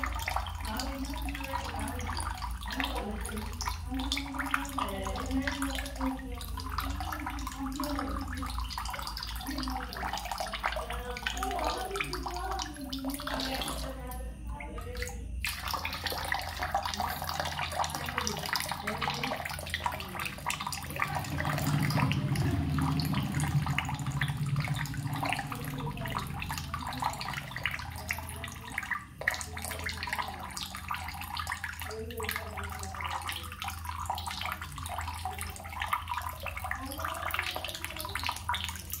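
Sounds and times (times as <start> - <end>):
running water rushing: 0.0 - 39.0.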